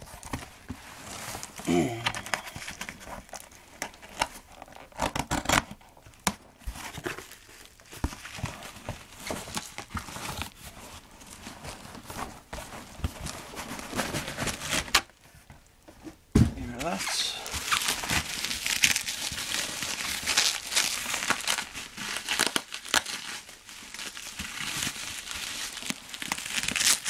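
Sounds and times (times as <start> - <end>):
packaging rustling and crinkling: 0.0 - 27.0.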